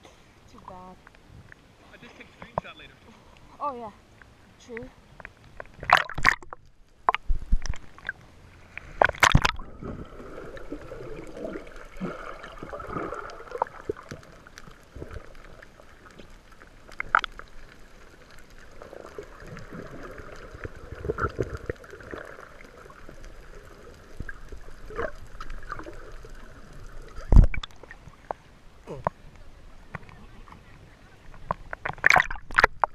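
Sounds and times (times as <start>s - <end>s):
muffled water sloshing and gurgling: 5.4s - 32.9s.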